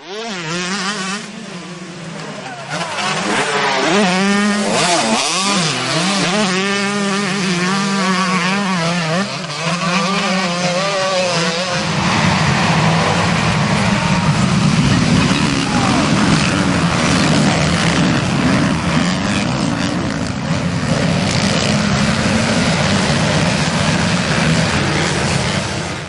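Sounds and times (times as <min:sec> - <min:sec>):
many motocross engines at full throttle: 0:00.0 - 0:26.0
motocross bike engine revving: 0:00.0 - 0:26.0.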